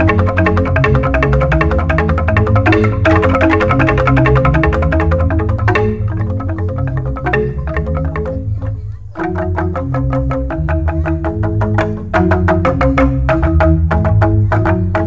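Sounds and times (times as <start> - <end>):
bamboo xylophones struck with mallets: 0.0 - 15.0
deep bamboo bass tones: 0.0 - 15.0.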